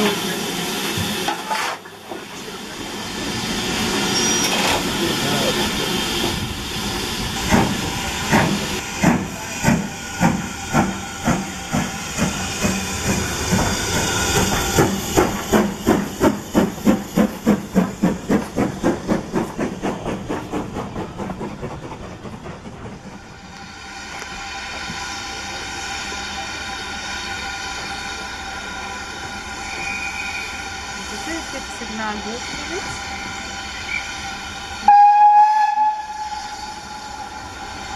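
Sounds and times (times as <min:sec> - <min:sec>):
steam hissing: 0:00.0 - 0:37.9
steam locomotive exhaust chuffing: 0:00.0 - 0:37.9.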